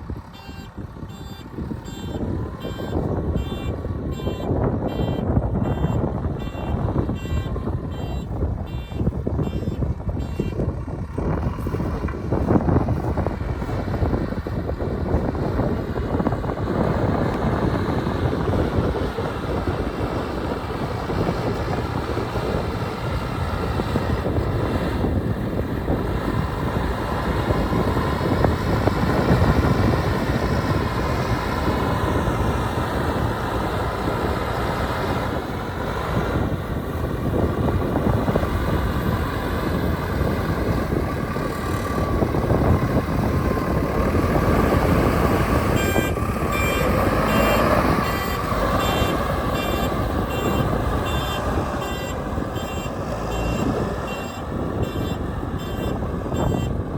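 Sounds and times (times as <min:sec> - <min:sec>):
diesel engine running: 0:00.0 - 0:56.9
wind buffeting microphone: 0:00.0 - 0:56.9.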